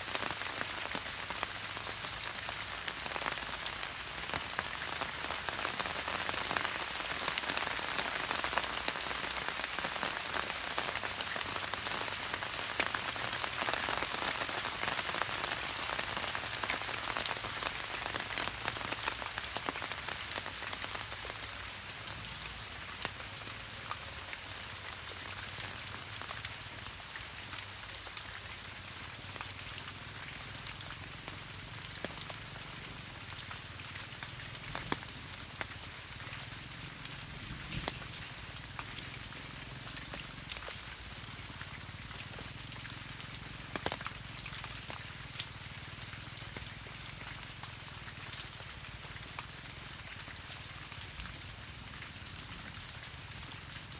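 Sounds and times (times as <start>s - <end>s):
heavy rain: 0.0s - 53.9s
raindrops striking close by: 0.0s - 53.9s.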